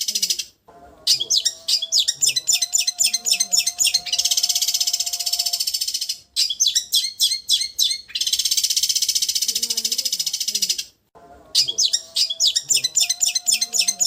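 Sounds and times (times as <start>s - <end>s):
bird chirping and trilling: 0.0s - 14.0s.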